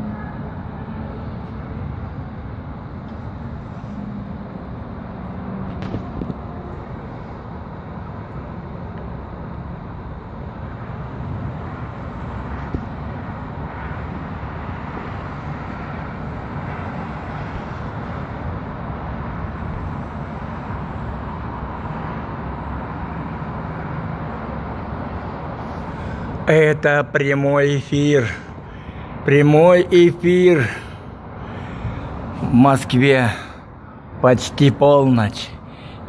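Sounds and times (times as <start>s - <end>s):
distant city traffic rumble: 0.0s - 36.0s.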